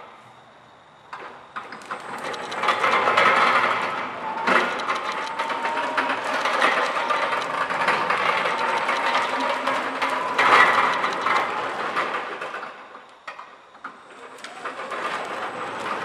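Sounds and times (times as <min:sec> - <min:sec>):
faint steady whine: 0:00.0 - 0:16.0
pallet truck wheels rattling: 0:01.6 - 0:12.8, 0:13.9 - 0:16.0.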